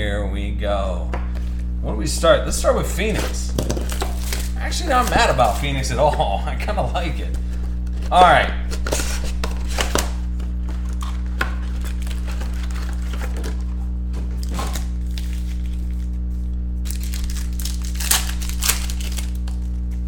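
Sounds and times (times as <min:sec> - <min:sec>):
steady low hum: 0:00.0 - 0:20.0
foil packs crinkling: 0:02.5 - 0:20.0
foil pack tearing open: 0:03.0 - 0:20.0.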